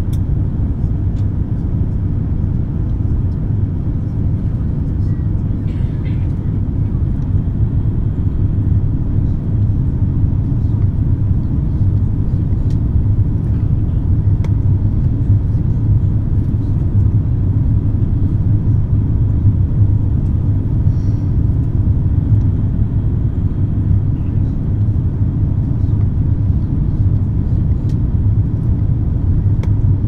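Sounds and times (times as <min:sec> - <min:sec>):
aircraft cabin rumble: 0:00.0 - 0:30.0.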